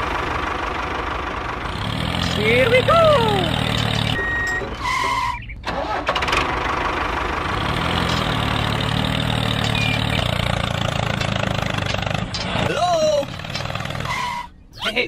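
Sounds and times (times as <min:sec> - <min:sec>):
tractor engine idling: 0:00.0 - 0:14.7.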